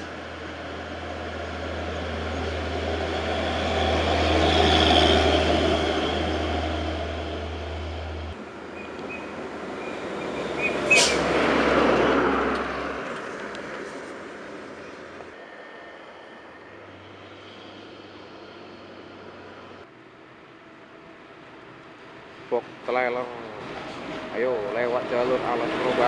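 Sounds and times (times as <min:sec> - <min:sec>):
road vehicles passing: 0:00.0 - 0:26.0.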